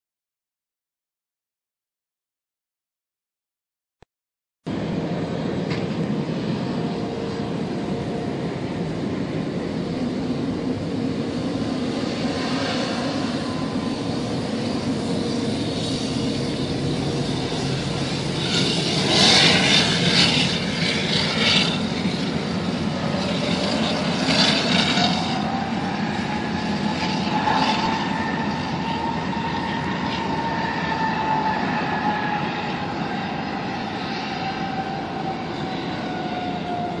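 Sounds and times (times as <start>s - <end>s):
jet engines at taxi power: 4.6s - 37.0s.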